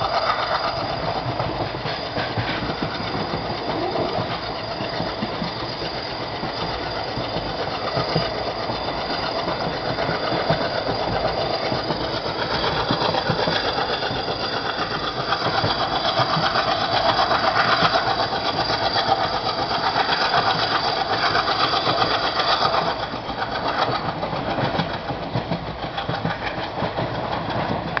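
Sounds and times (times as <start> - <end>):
diesel train rhythmic clatter: 0.0 - 28.0.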